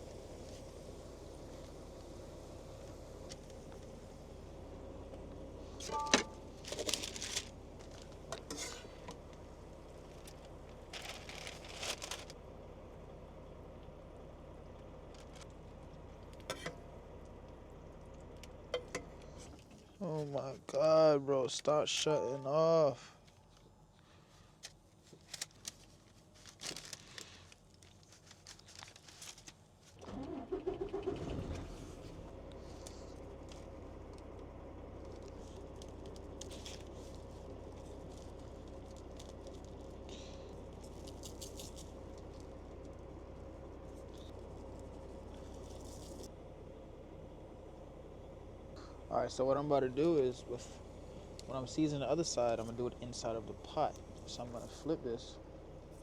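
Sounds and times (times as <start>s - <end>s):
diesel truck engine starting and idling: 0.0s - 21.2s, 30.0s - 56.0s
steady low hum: 0.0s - 27.8s, 31.6s - 56.0s.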